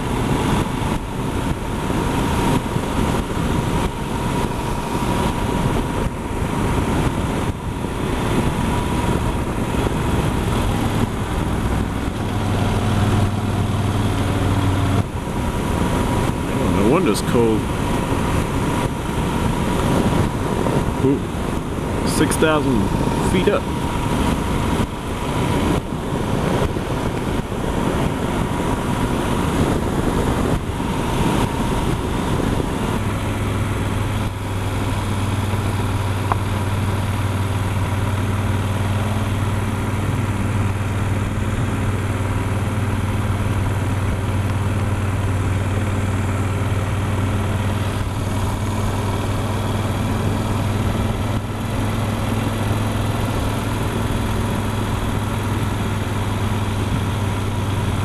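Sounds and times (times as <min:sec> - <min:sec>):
motorcycle engine drone: 0:00.0 - 0:58.0
wind rush on microphone: 0:00.0 - 0:58.0.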